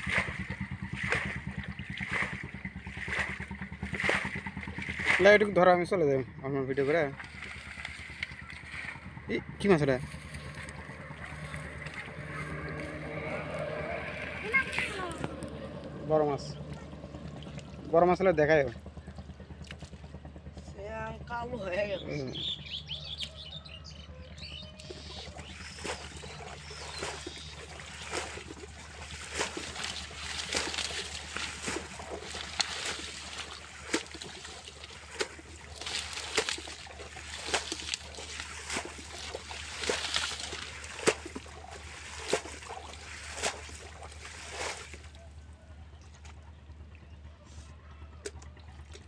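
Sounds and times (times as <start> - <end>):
muddy water splashing: 0.0 - 20.4, 22.4 - 49.0.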